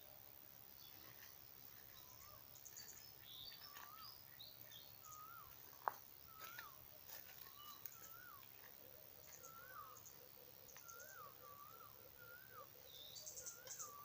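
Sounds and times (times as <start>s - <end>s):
faint songbirds whistling: 0.7s - 14.0s
high bird chirps: 0.9s - 8.6s, 9.2s - 14.0s.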